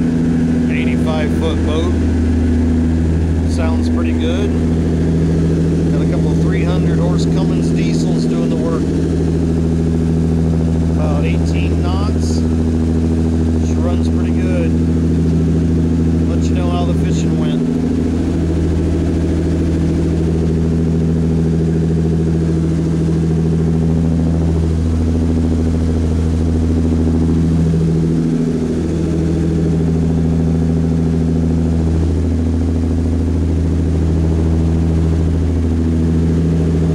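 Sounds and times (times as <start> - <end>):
boat engines droning: 0.0 - 36.9
churning wake rushing: 0.0 - 36.9.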